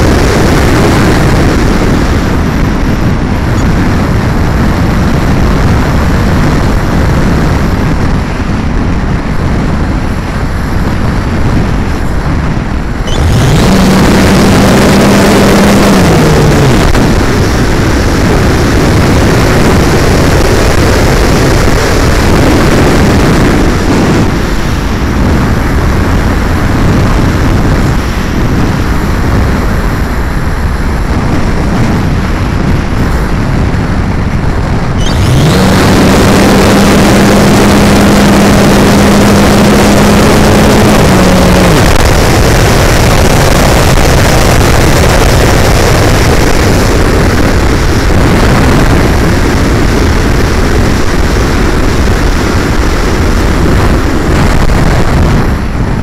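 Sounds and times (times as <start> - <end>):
electric motor and propeller hum: 0.0 - 56.0
heavy wind rush: 0.0 - 56.0.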